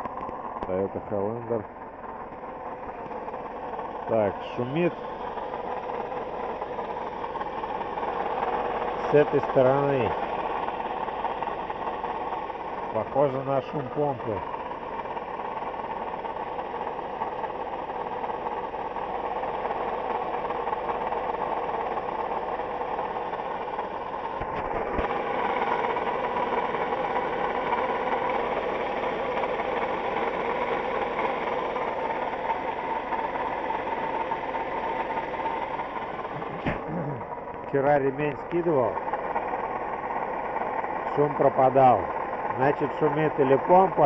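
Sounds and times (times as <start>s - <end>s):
car engine idling: 0.0s - 44.0s
water pump whirring and knocking: 0.0s - 44.0s.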